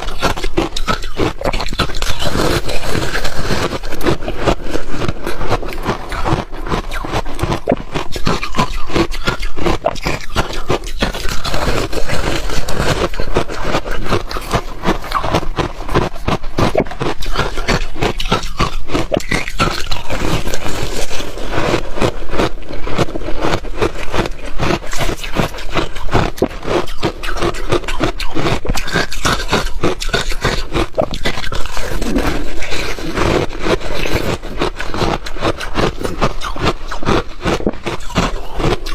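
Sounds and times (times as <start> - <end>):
ice crunched between teeth: 0.0 - 38.9.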